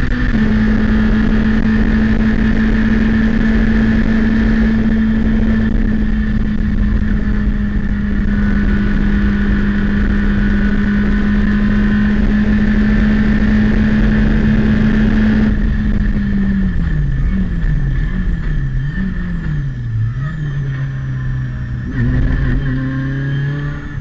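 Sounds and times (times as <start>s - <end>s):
car engine at high revs: 0.0s - 24.0s
wind and road noise: 0.0s - 24.0s.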